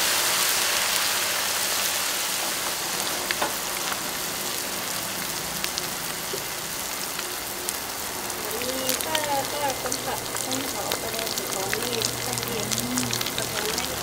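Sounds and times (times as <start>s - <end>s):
batter deep-frying in oil: 0.0s - 14.0s.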